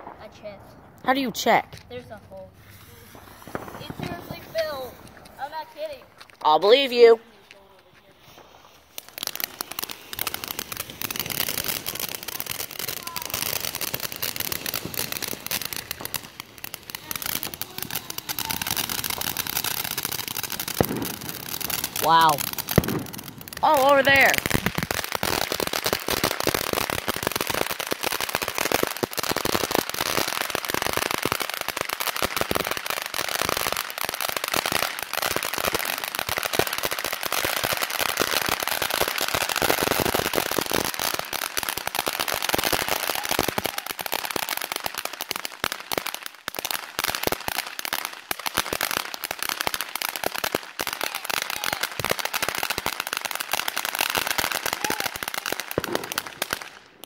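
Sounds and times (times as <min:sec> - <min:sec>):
firework fountain hissing and crackling: 0:00.0 - 0:57.0.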